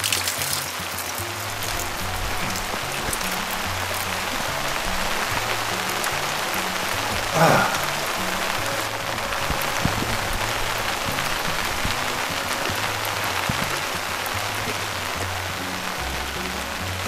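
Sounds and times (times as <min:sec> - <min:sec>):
background music: 0:00.0 - 0:17.0
rain pouring: 0:00.0 - 0:17.0.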